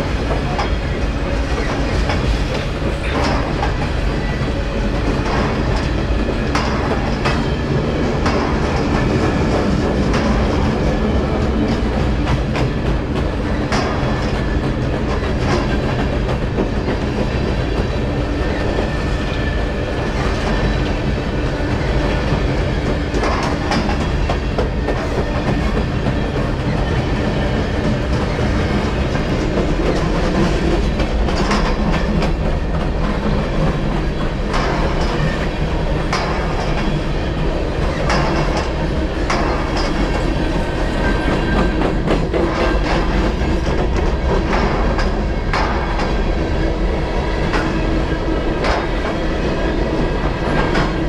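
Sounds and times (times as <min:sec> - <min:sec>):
freight train rumbling past: 0:00.0 - 0:51.0
wheels clanking on rails: 0:00.0 - 0:51.0.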